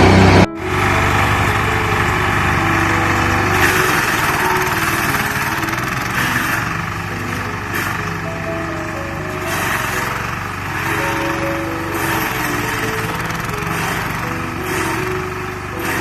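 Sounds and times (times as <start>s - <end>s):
shredder engine running: 0.0s - 16.0s.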